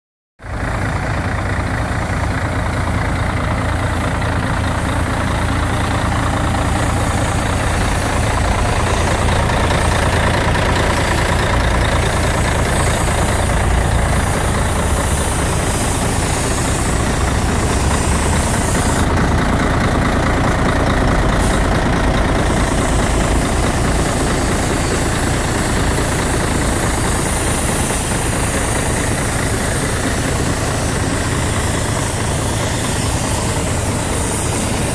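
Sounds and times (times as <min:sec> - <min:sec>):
diesel truck engine idling: 0:00.4 - 0:34.9.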